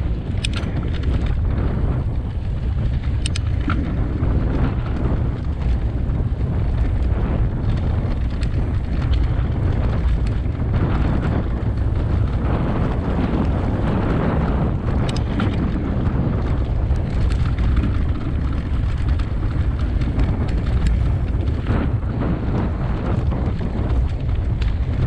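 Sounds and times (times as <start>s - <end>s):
bike clicks and rattles: 0.0s - 25.0s
tyres rumbling over dirt: 0.0s - 25.0s
wind buffeting microphone: 0.0s - 25.0s.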